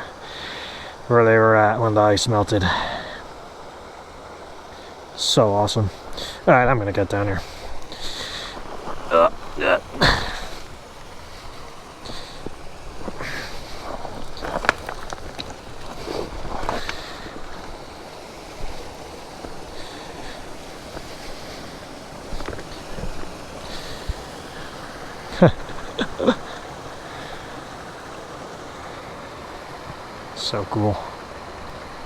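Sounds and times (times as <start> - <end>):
mountain stream running: 0.0 - 32.0.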